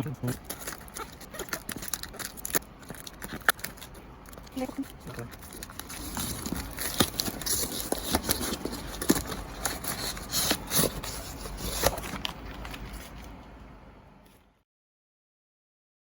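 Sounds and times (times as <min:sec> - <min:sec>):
plastic packaging crinkling: 0:00.2 - 0:13.6.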